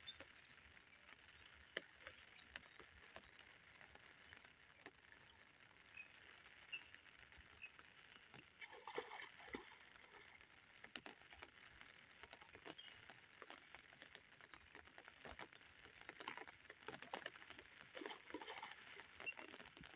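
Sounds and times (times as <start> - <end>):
water pattering and splashing: 0.0 - 19.9.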